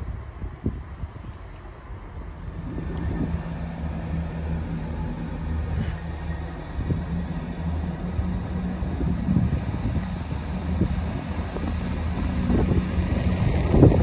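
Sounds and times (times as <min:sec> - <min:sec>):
diesel train engines droning: 0:00.0 - 0:14.0.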